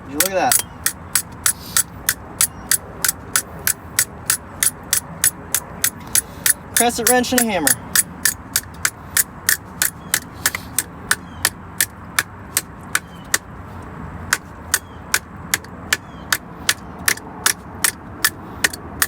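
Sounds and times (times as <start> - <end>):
hammer tapping on a wrench: 0.2 - 13.4, 14.3 - 19.0.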